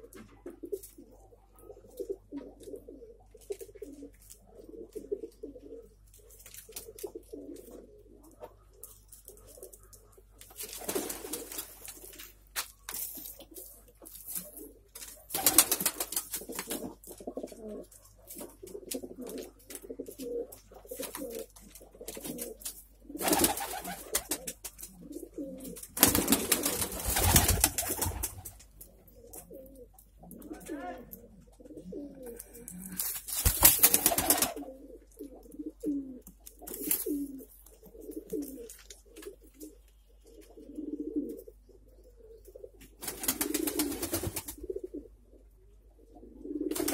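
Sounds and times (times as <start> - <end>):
pigeons cooing: 0.0 - 12.1, 13.5 - 46.9.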